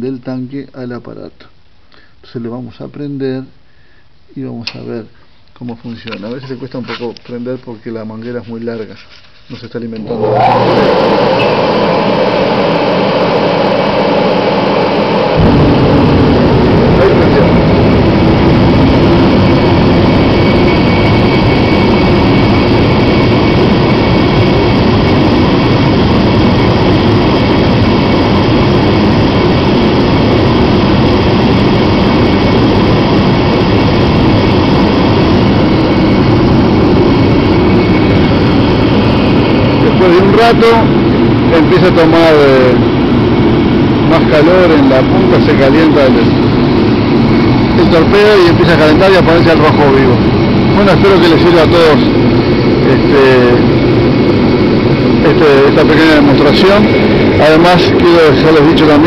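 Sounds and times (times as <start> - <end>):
heater fan rushing: 0.0 - 59.0
burner rumble: 10.2 - 59.0.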